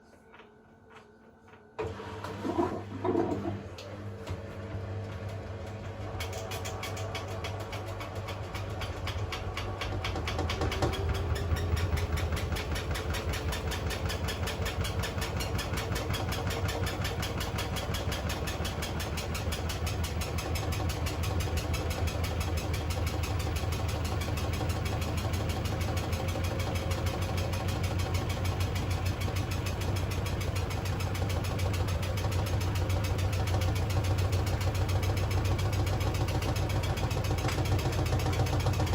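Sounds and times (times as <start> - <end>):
washing machine motor whine: 0.0 - 38.9
fast even rattle: 6.3 - 38.9.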